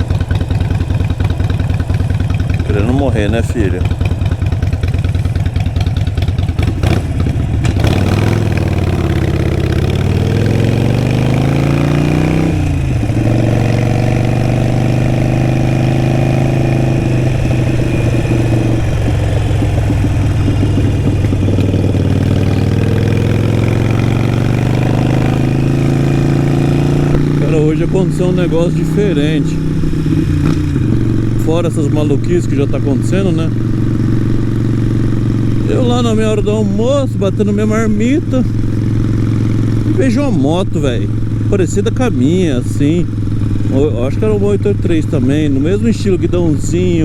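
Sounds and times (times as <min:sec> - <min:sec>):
motorcycle engine riding: 0:00.0 - 0:47.0.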